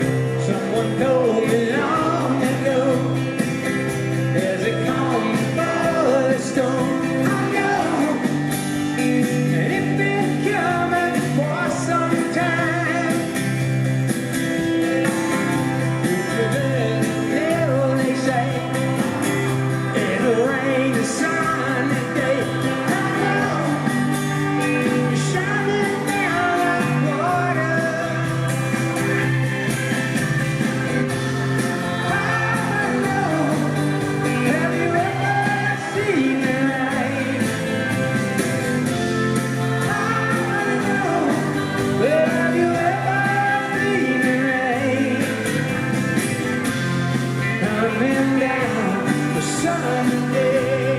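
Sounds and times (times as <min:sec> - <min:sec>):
man singing: 0:00.0 - 0:13.6, 0:15.0 - 0:29.4, 0:31.4 - 0:38.3, 0:39.1 - 0:46.0, 0:47.3 - 0:50.9
live rock band: 0:00.0 - 0:50.9.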